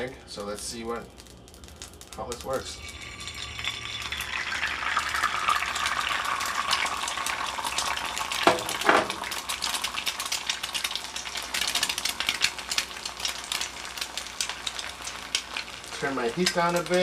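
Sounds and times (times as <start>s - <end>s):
egg sizzling in a pan: 0.0s - 17.0s.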